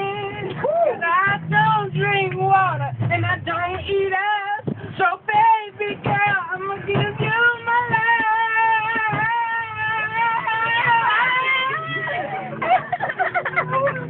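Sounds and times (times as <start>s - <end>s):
girls singing: 0.0s - 12.6s.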